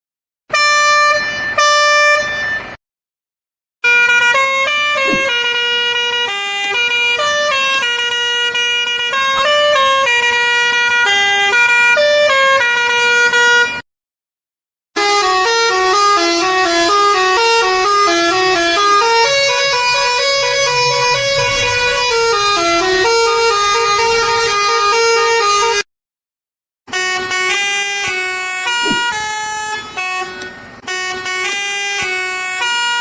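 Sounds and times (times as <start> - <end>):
musical bus horn tune: 0.5 - 2.8, 3.8 - 13.8, 15.0 - 25.9, 26.9 - 33.0.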